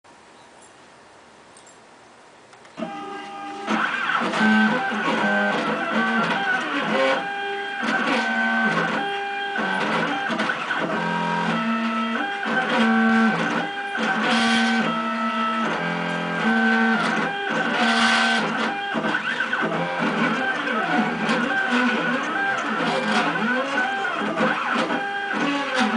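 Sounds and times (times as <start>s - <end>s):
stepper motors whining: 2.7s - 25.9s.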